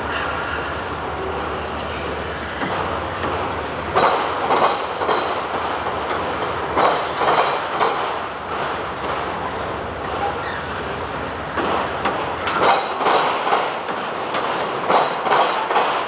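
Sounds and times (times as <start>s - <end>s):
steel wheels rumbling on rail: 0.0s - 16.0s
wheels clacking: 2.6s - 16.0s.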